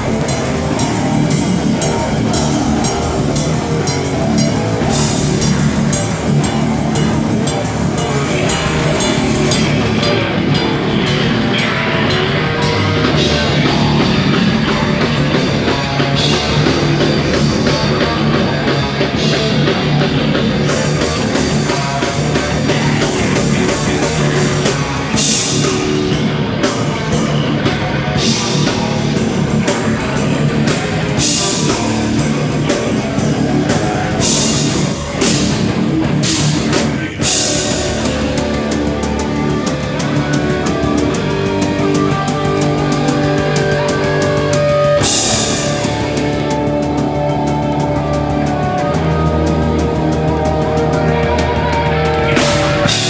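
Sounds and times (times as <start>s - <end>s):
bass guitar: 0.0s - 53.0s
distorted electric guitars: 0.0s - 53.0s
drum kit: 0.0s - 53.0s.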